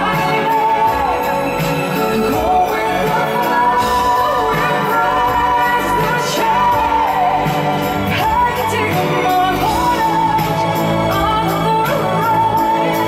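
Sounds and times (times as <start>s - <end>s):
live band playing pop ballad: 0.0s - 13.0s.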